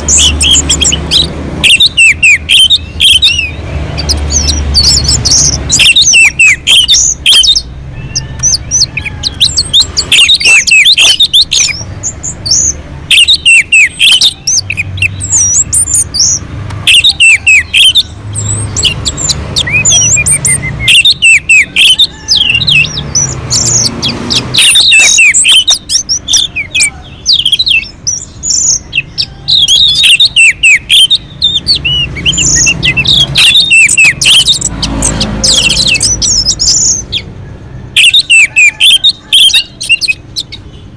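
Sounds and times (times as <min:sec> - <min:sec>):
thrush singing: 0:00.0 - 0:40.9.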